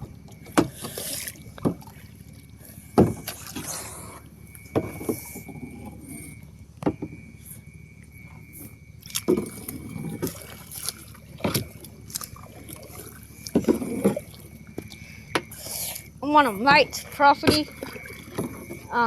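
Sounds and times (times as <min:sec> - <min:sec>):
water sloshing around canoe: 0:00.0 - 0:19.0.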